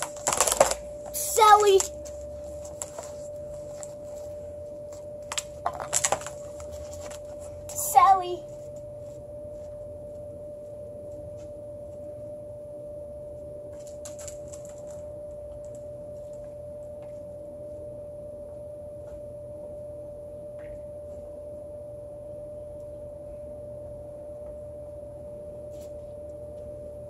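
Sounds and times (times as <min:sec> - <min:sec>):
steady single-pitched hum: 0:00.0 - 0:27.0.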